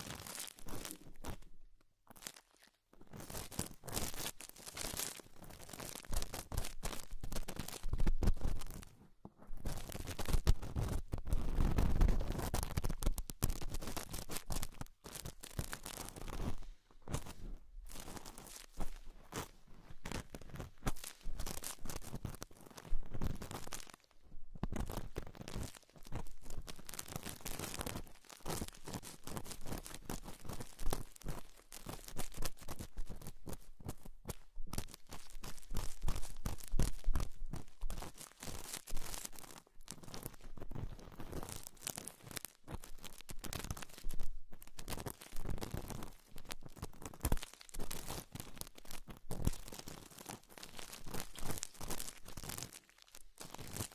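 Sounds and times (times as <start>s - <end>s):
crinkly material crackling: 0.0s - 53.9s.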